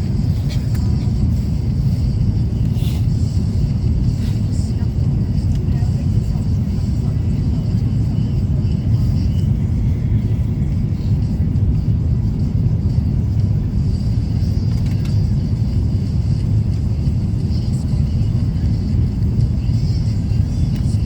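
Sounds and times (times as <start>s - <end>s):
vehicle interior rumble: 0.0s - 21.0s.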